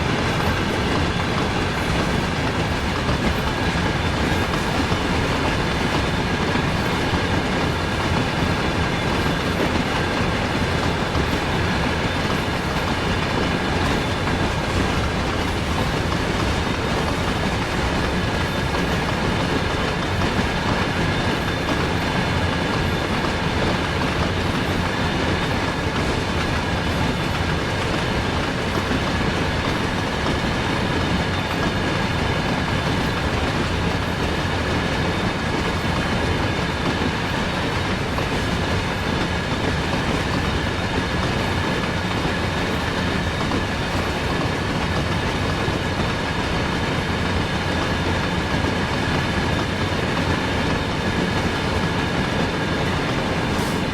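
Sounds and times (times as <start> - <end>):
freight train rumbling past: 0.0 - 53.9.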